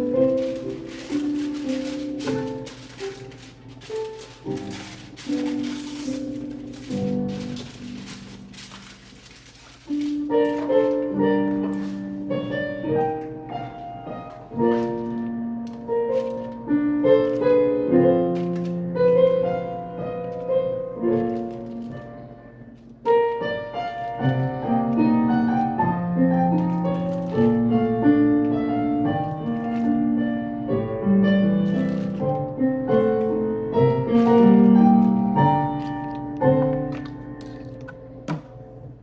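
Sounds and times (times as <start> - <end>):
slow calm piano music: 0.0 - 39.0.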